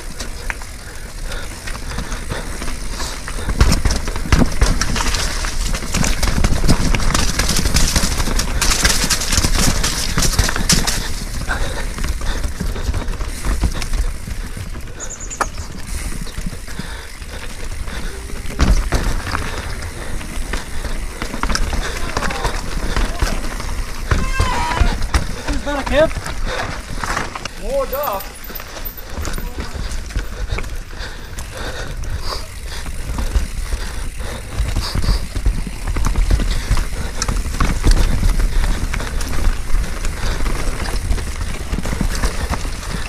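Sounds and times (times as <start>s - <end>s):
bike rattling and knocking: 0.0s - 43.0s
bike tyres on dirt and rock: 0.0s - 43.0s.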